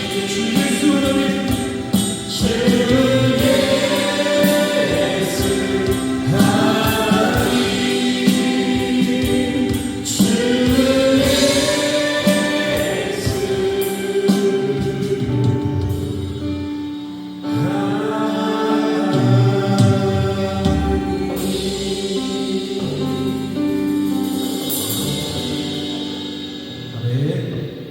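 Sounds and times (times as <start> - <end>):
choir singing with music: 0.0 - 27.9.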